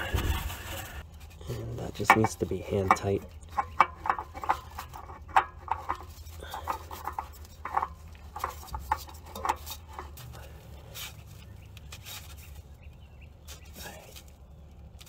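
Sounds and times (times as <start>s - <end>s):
faint handling noise: 0.0s - 15.0s
oil filter scraping clicks: 0.1s - 13.8s.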